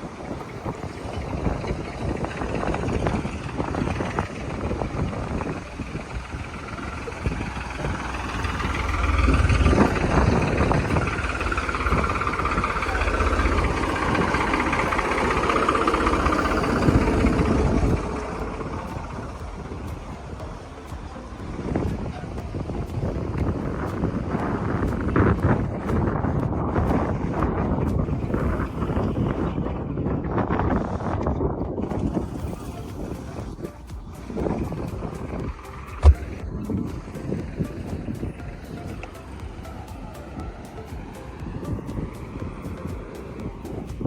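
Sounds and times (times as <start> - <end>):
boat engine rumbling: 0.0 - 44.0.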